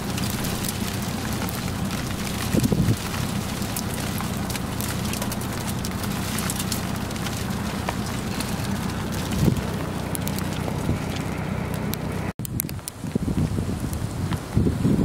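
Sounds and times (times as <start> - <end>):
car engine idling: 0.0 - 12.4
ice pellets ticking on a car: 0.0 - 13.0.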